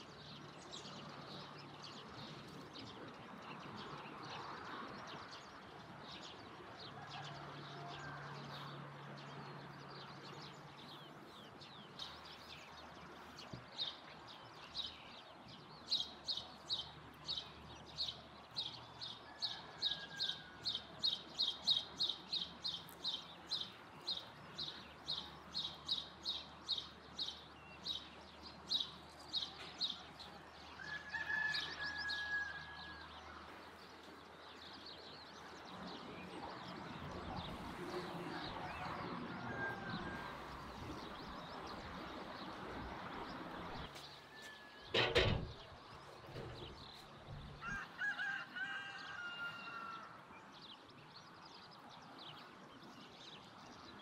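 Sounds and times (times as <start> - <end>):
birds chirping: 8.0 - 54.0.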